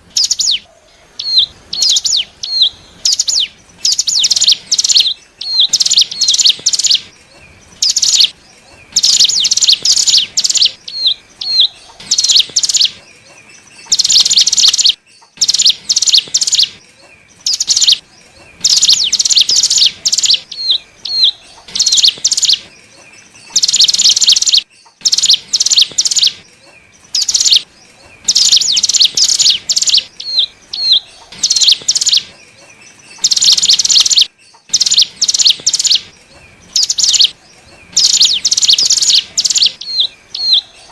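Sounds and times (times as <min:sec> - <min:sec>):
bird chirps: 0:00.0 - 0:40.9
bird trilling: 0:00.0 - 0:40.9.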